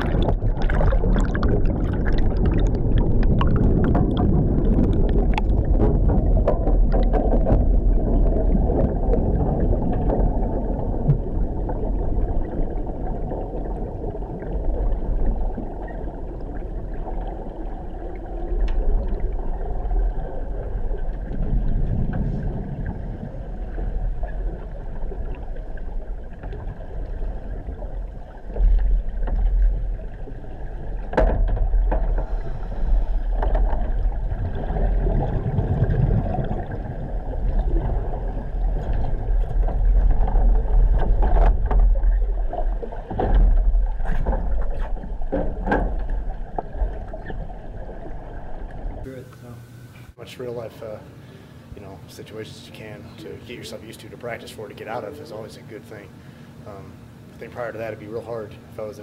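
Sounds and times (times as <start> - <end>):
divers' exhaled bubbles: 0.0 - 49.1
low underwater rumble: 0.0 - 49.1.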